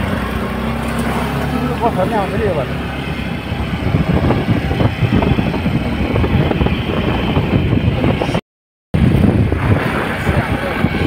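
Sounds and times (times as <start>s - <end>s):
low rumble of engine and road: 0.0s - 8.4s, 9.0s - 11.0s.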